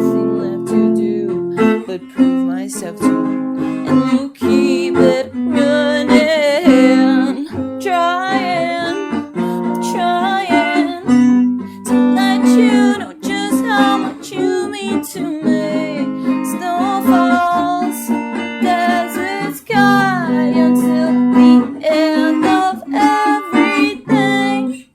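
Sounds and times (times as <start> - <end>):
person singing: 0.0 - 24.9
strummed acoustic string instrument: 0.0 - 24.9.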